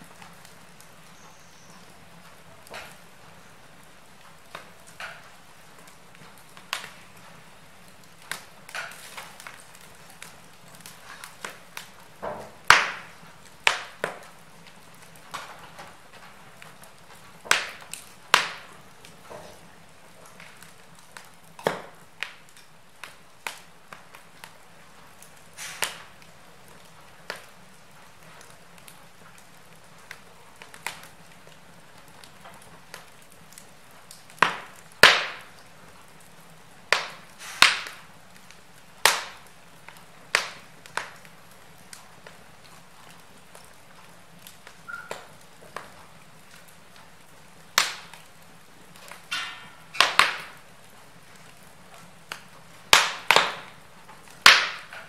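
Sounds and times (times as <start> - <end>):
soft steady hiss: 0.0 - 55.0
wood fire crackling: 0.0 - 55.0
sharp pops and snaps: 0.1 - 19.6, 20.2 - 24.6, 25.2 - 48.4, 49.0 - 50.6, 51.2 - 55.0.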